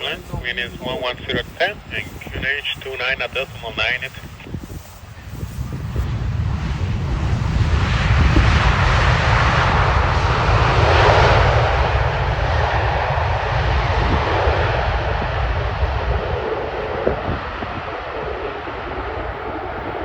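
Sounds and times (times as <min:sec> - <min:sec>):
low rumble: 0:00.0 - 0:19.9
jet engines rushing past: 0:00.0 - 0:20.0.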